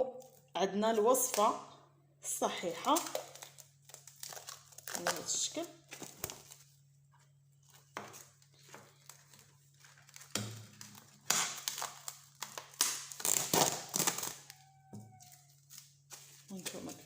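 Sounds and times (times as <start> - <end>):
plastic rustling and crinkling: 2.6 - 17.0.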